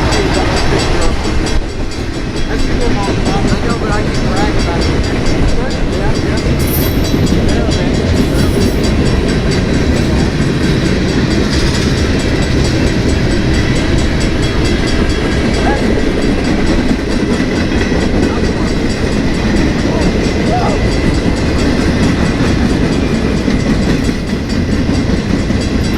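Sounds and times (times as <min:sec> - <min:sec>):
train rumble: 0:00.0 - 0:25.9
train wheels clicking over rails: 0:00.0 - 0:25.9.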